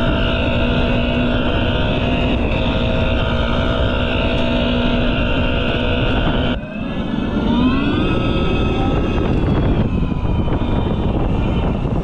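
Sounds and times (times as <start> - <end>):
simulated engine sound from speaker: 0.0 - 12.0.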